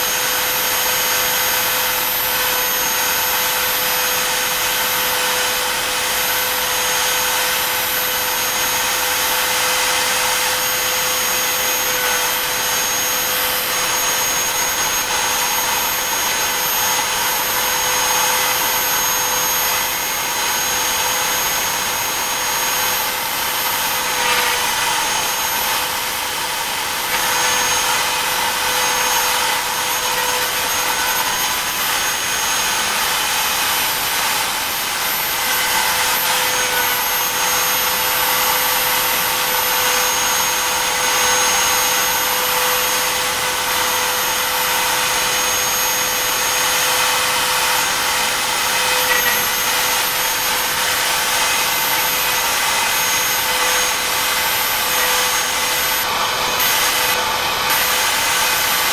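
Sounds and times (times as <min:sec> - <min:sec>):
bit cutting wood: 0:00.0 - 0:58.9
router spindle whine: 0:00.0 - 0:58.9.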